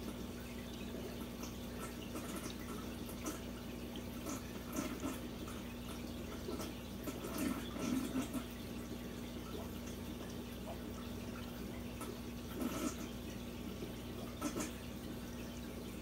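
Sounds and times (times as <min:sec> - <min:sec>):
aquarium water trickling: 0:00.0 - 0:16.0
steady low hum: 0:00.0 - 0:16.0.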